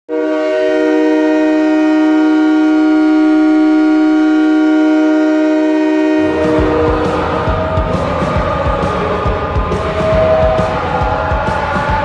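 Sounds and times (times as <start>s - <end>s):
arena goal horn chord: 0.1s - 11.6s.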